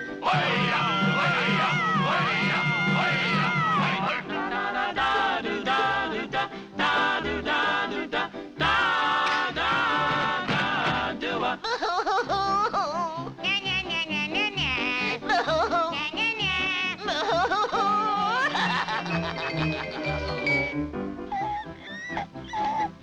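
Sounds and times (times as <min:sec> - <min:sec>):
lively cartoon orchestral music: 0:00.0 - 0:23.0.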